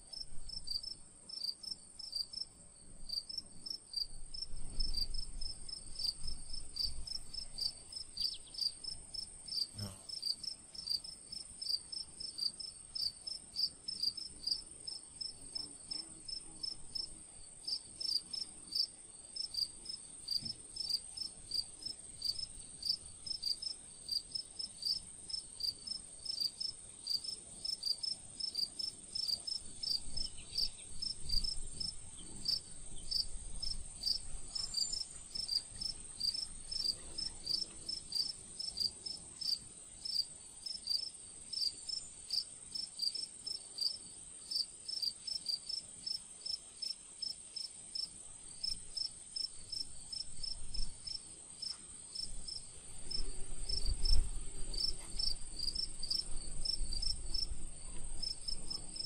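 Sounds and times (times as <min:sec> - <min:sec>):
crickets chirping: 0:00.1 - 0:59.0.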